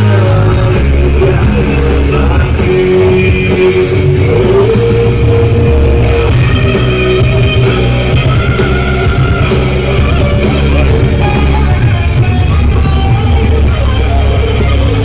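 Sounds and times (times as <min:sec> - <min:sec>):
loud rock music with booming bass: 0:00.0 - 0:15.0.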